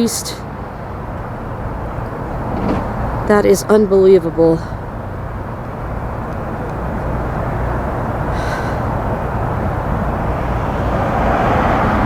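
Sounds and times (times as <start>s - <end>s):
wind buffeting microphone: 0.5s - 12.0s.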